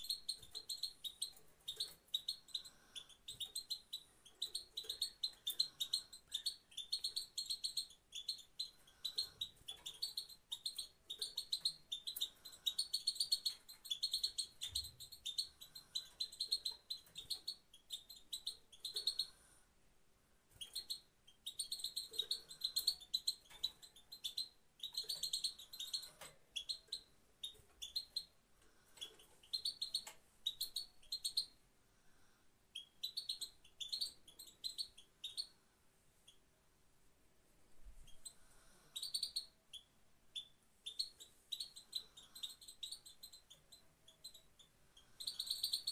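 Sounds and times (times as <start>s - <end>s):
goldfinch twittering chirps: 0.0s - 19.4s, 20.5s - 31.6s, 32.7s - 35.5s, 38.1s - 45.9s.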